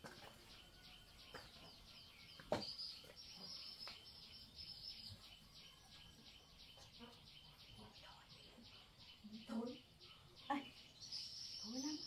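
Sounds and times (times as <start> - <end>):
rapid bird chirping: 0.0 - 12.0.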